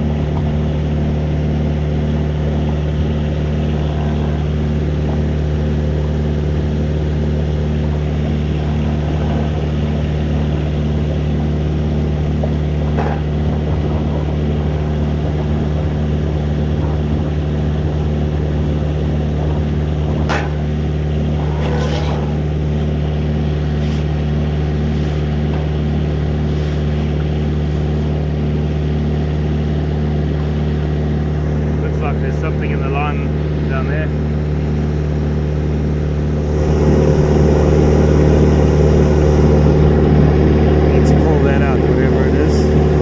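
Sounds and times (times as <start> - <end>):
high-pressure pump droning: 0.0 - 43.0.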